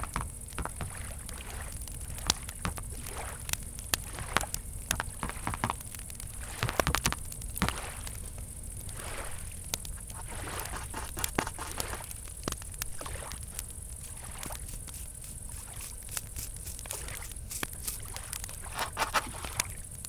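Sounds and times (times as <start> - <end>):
lake water lapping: 0.0 - 19.8
campfire crackling and popping: 0.0 - 20.0
crickets chirring: 0.0 - 20.0.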